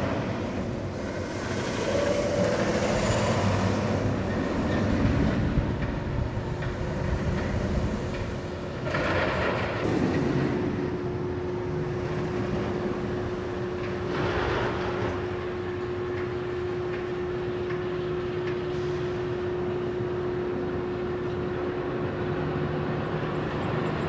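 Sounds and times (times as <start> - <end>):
roller coaster wheel rumble: 0.0 - 24.0.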